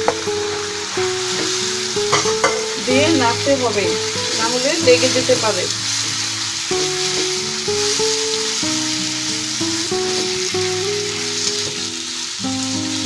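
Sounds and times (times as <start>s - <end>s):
background music with held notes: 0.0s - 13.0s
food sizzling in hot oil: 0.0s - 13.0s.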